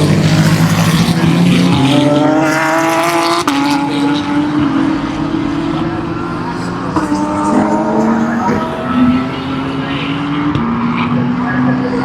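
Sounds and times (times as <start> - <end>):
other race cars: 0.0 - 12.0
race car engine accelerating: 0.0 - 12.0.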